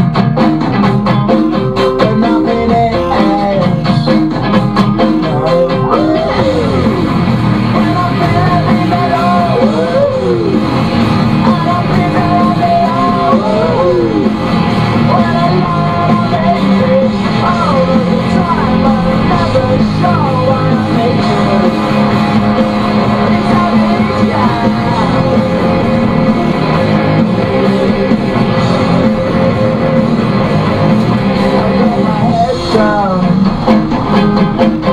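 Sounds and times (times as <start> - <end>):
rock song on car radio: 0.0 - 34.9.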